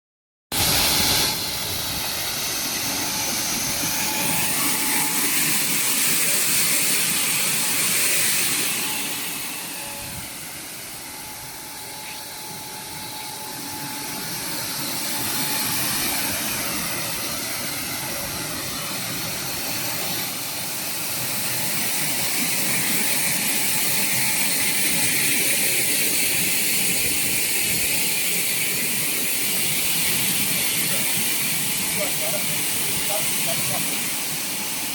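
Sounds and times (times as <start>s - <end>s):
washing machine air hiss: 0.6s - 34.9s.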